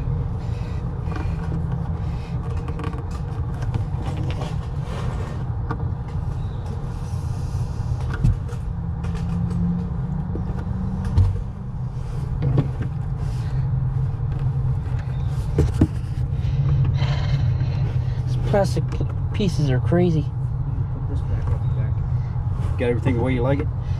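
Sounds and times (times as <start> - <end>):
engine rumbling: 0.0 - 23.9.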